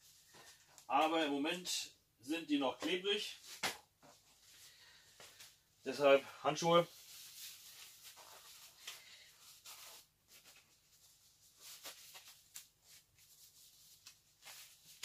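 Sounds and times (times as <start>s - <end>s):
gloves rubbing and rustling: 0.0s - 1.3s, 2.8s - 15.0s.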